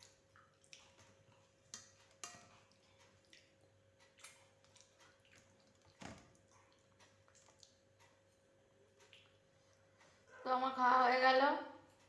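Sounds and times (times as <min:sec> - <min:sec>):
faint sharp eating clicks: 0:00.0 - 0:10.1.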